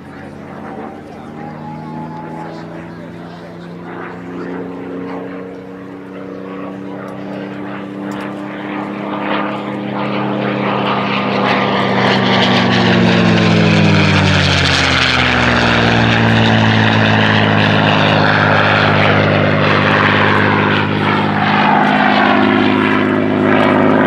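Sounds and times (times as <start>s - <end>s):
propeller aircraft engine flypast: 0.0s - 24.0s.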